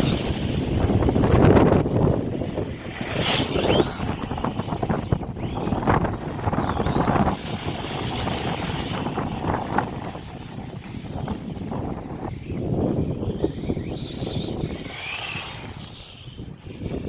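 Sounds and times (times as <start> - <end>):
electric rc car motor: 0.0 - 17.0
wind on microphone: 0.0 - 17.0.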